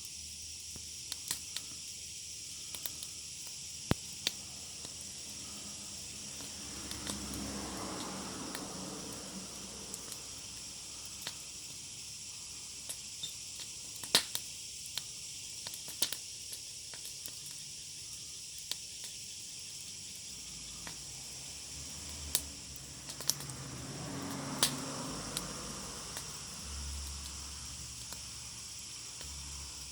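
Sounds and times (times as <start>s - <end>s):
sharp pops and snaps: 0.0s - 1.9s, 2.6s - 9.3s, 9.9s - 11.8s, 12.8s - 29.4s
wood fire crackling: 0.5s - 29.9s.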